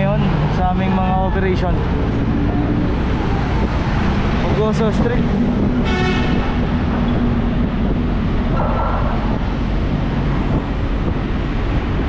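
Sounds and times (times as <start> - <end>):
vehicle road noise rumble: 0.0 - 12.0.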